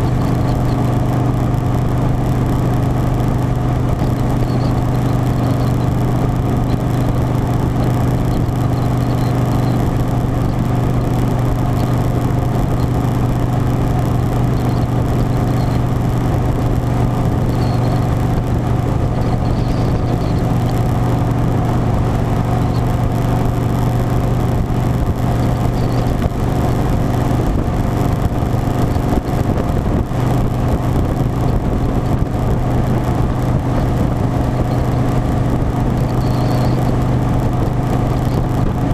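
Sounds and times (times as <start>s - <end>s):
motorcycle engine cruising: 0.0s - 38.9s
wind noise rumbling: 0.0s - 38.9s.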